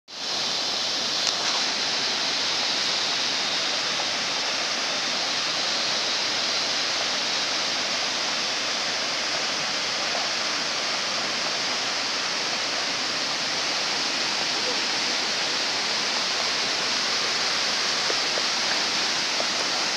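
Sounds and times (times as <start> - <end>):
river rushing over boulders: 0.1 - 19.9.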